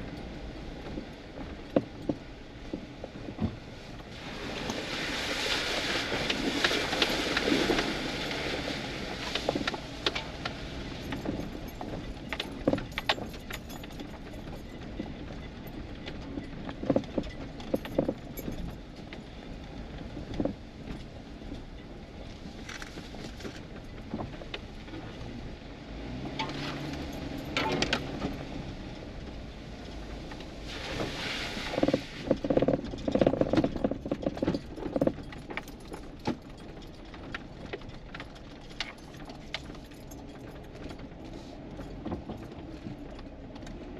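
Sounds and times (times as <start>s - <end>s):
engine hum and tyre noise: 0.0s - 43.9s
rattles and clunks: 6.1s - 25.3s, 26.1s - 30.6s, 31.7s - 43.9s.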